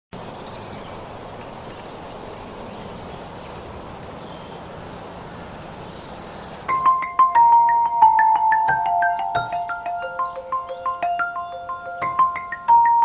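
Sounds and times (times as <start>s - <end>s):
outdoor natural ambience: 0.1s - 13.0s.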